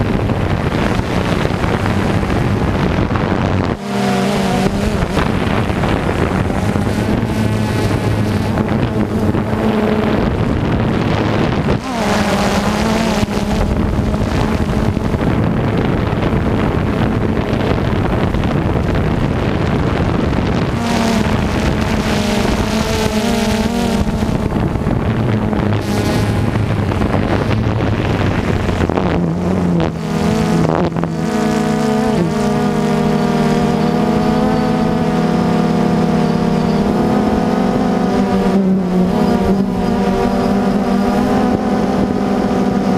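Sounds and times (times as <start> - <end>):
heavy machinery engine running: 0.0 - 42.9.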